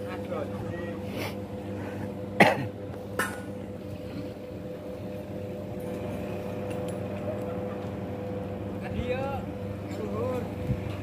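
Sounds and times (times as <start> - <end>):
electrical hum of substation: 0.0 - 11.0.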